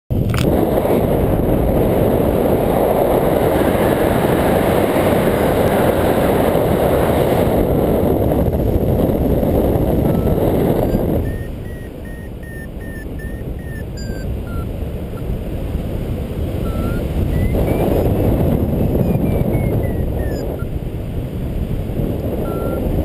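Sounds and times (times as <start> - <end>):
wind buffeting microphone: 0.1 - 23.0.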